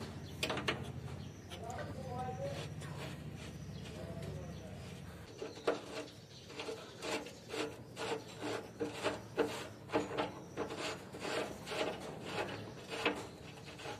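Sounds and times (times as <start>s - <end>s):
hand tool rasping on metal: 0.4s - 13.9s.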